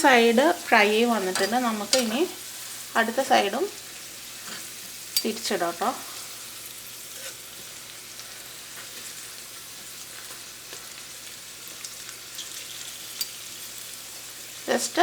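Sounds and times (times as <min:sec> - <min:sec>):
okra sizzling in hot oil: 0:00.0 - 0:15.0.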